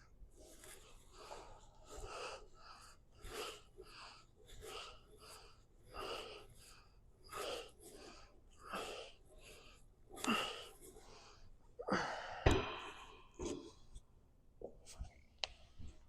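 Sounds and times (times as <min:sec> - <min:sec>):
person breathing hard: 0:00.0 - 0:13.7.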